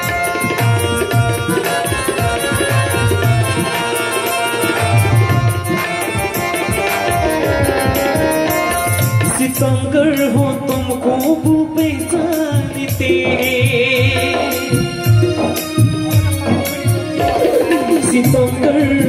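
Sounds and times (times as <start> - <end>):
electronic keyboard melody: 0.0 - 19.0
tabla drums playing: 0.0 - 19.0.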